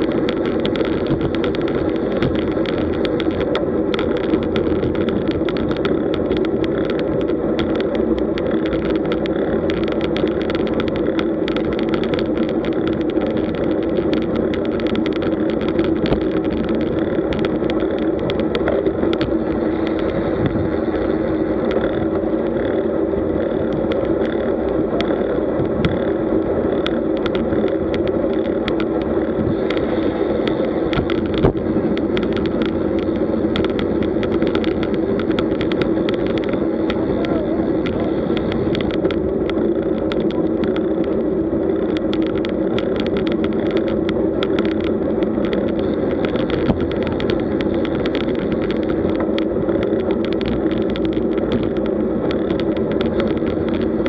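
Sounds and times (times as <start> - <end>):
bicycle tyre noise: 0.0 - 54.0
small clicks and rattles: 0.0 - 54.0.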